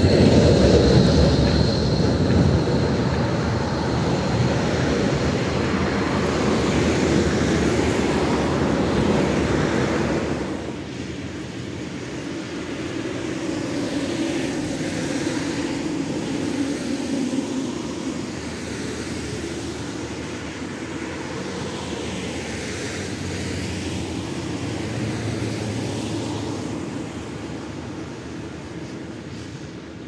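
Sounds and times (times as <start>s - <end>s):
tram rumbling on track: 0.0s - 30.0s.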